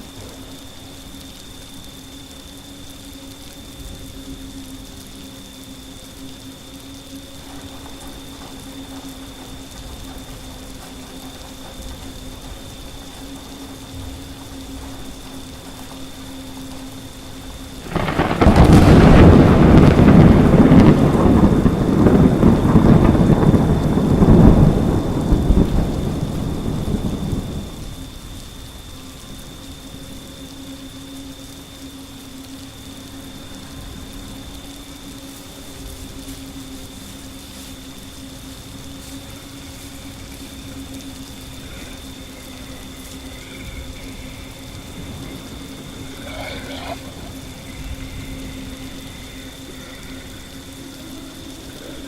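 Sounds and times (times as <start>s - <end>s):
thunder rolling rumble: 0.0s - 31.4s, 32.0s - 52.0s
faint hum: 0.0s - 52.0s
steady rain-like noise: 0.0s - 52.0s.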